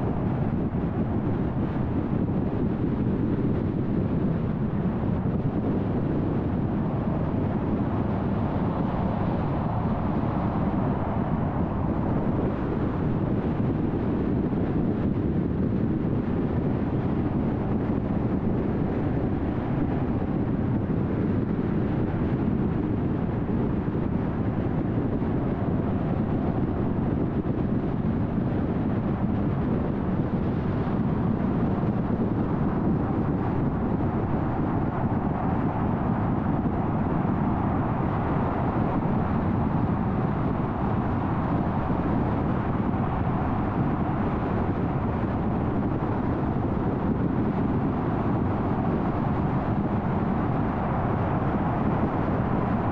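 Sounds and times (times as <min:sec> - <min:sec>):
car road noise at speed: 0:00.0 - 0:52.9.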